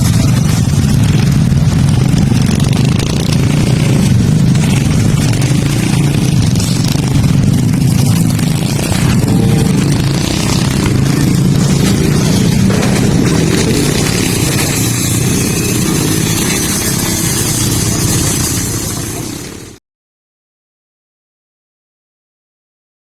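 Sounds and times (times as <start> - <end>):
vehicle engine rumbling: 0.0 - 19.8.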